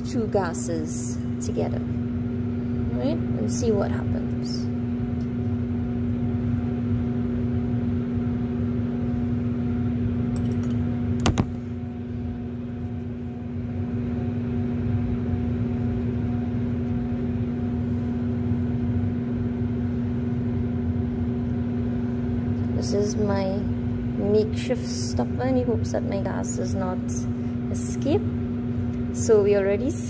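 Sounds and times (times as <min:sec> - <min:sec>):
extraction fan humming: 0:00.0 - 0:30.0.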